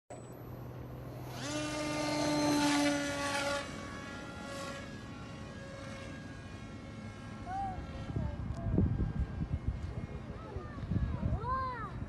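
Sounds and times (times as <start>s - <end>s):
model plane motor whining: 0.3s - 11.8s.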